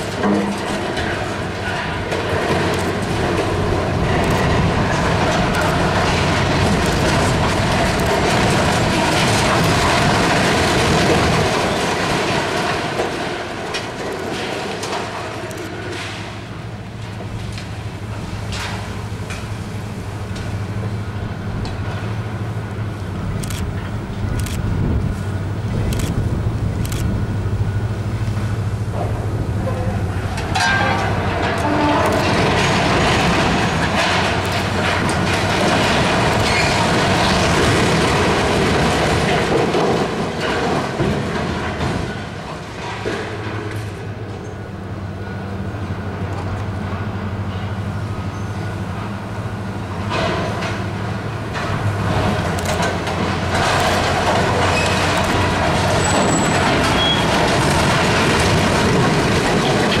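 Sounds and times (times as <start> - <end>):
metallic grinding and clanking: 0.0 - 27.2, 27.8 - 44.6, 46.9 - 60.0
heavy demolition rumble: 0.0 - 60.0.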